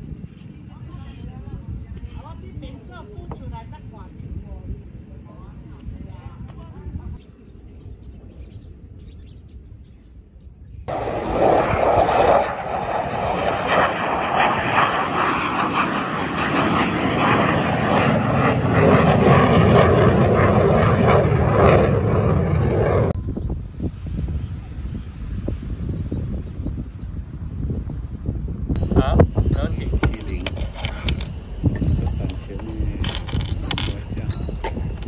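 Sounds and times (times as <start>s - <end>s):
airplane engine noise: 0.0s - 35.0s.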